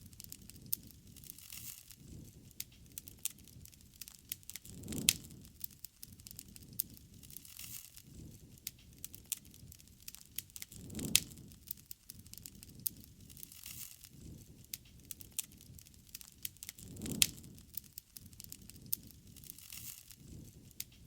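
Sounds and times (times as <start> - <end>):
campfire crackling: 0.0 - 21.0
fire popping: 0.0 - 21.0.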